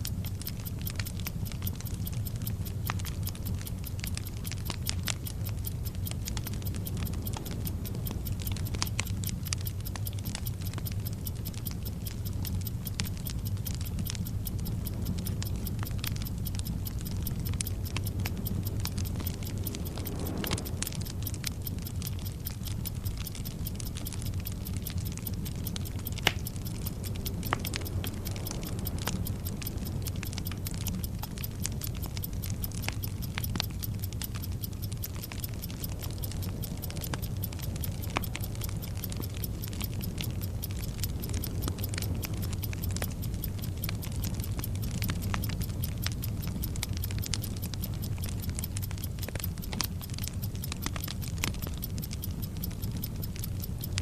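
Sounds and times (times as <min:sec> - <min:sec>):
burning fuse hissing and crackling: 0:00.0 - 0:54.0
clock ticking: 0:00.0 - 0:54.0.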